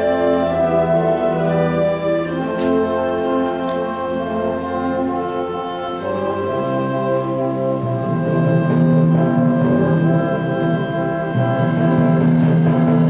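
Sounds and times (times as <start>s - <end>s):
concert band playing brass chords: 0.0s - 13.0s.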